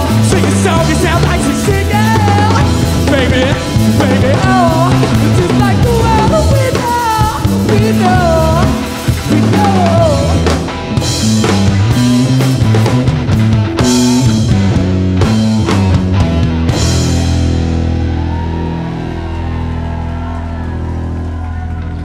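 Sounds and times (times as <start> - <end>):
drum kit: 0.0 - 22.0
electric bass: 0.0 - 22.0
electric guitar lead: 0.0 - 22.0.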